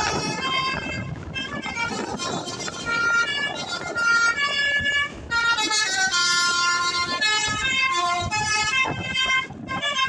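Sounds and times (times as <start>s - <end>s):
bus horn playing a tune: 0.0s - 10.0s.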